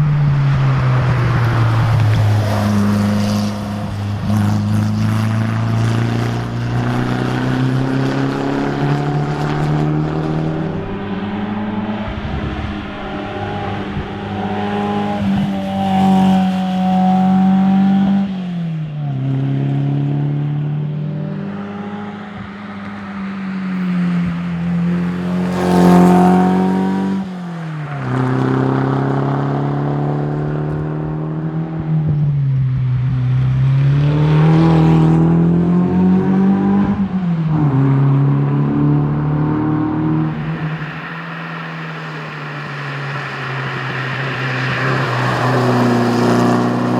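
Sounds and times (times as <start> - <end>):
car engine accelerating: 0.0 - 32.1, 33.0 - 46.9.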